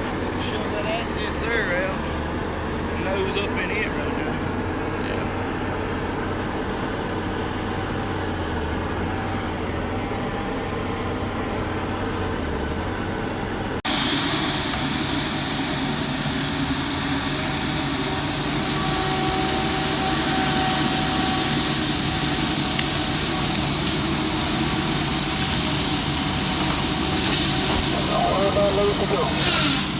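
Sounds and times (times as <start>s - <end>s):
bright engine noise: 0.0s - 29.9s
heavy equipment engines running: 0.0s - 29.9s.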